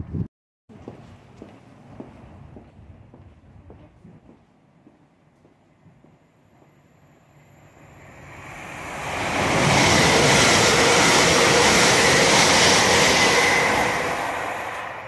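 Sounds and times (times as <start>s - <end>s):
train passing at speed: 1.8s - 15.0s.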